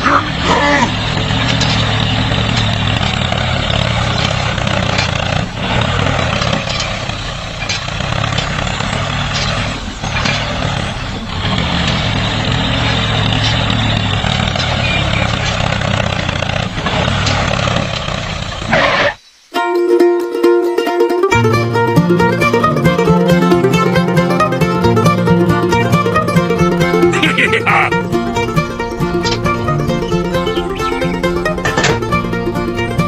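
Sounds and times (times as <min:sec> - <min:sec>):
small diesel engine running: 0:00.0 - 0:18.8, 0:21.3 - 0:33.0.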